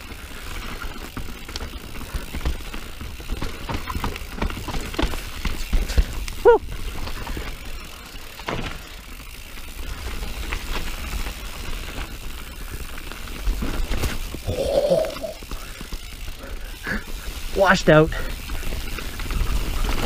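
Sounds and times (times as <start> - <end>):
bike knocking and rattling: 0.0 - 20.0
bike tyres rolling on dirt: 0.0 - 20.0.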